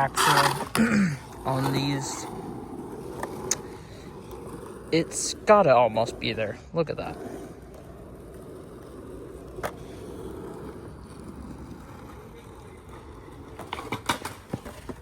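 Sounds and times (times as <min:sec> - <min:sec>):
skateboard clacks: 0:00.0 - 0:15.0
skateboard wheels rumbling: 0:00.0 - 0:15.0.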